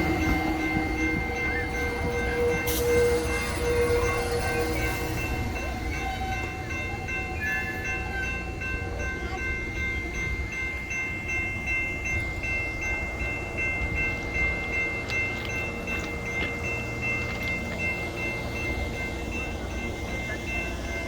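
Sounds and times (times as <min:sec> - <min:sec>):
passenger train rumbling: 0:00.0 - 0:21.0
steady high ringing tone: 0:00.0 - 0:21.0.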